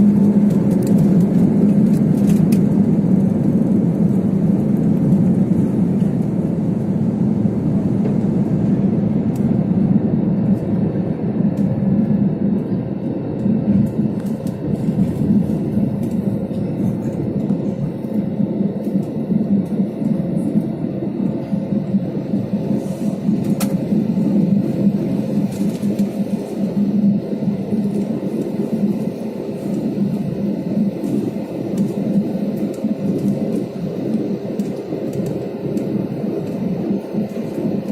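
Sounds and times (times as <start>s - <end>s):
aeroplane cabin engine rumble: 0.0s - 37.9s.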